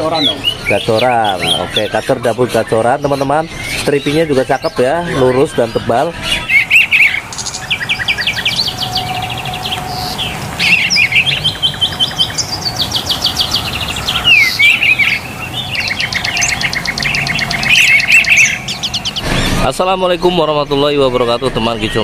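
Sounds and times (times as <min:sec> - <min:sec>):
bird singing trills and chirps: 0:00.0 - 0:22.0.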